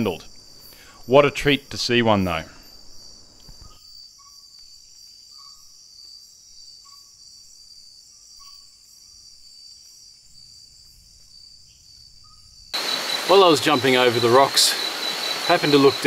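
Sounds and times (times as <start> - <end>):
crickets trilling: 0.0 - 16.0
short lower insect calls: 0.0 - 16.0.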